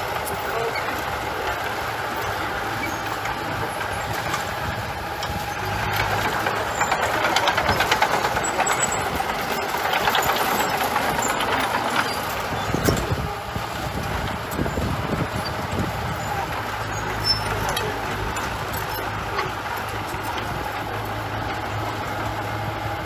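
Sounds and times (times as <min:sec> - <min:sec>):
rapid metallic clanking: 0:00.0 - 0:22.5
diesel engine running: 0:00.0 - 0:23.0.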